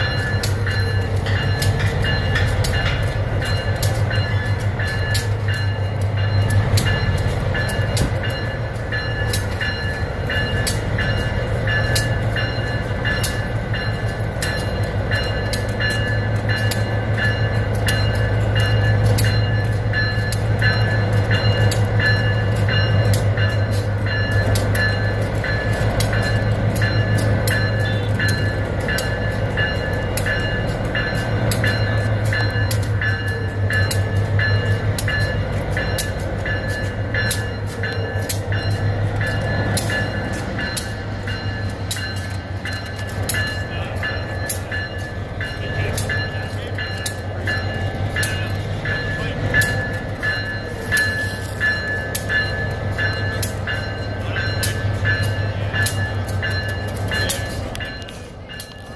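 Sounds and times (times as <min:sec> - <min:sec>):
locomotive bell ringing: 0:00.0 - 0:58.9
locomotive engine humming: 0:00.0 - 0:58.9.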